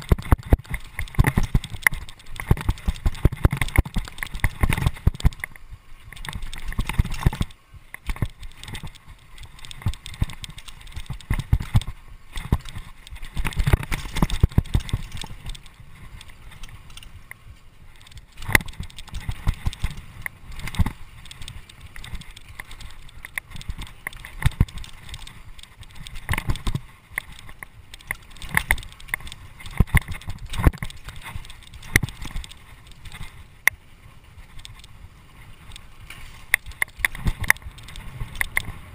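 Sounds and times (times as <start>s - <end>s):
mountain bike clattering: 0.0s - 38.9s
wind rumbling on microphone: 0.0s - 38.9s.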